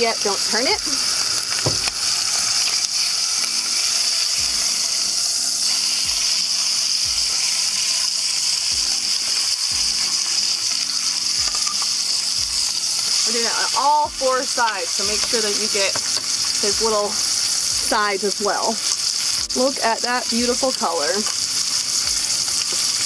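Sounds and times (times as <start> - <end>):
meat sizzling in a pot: 0.0 - 23.0.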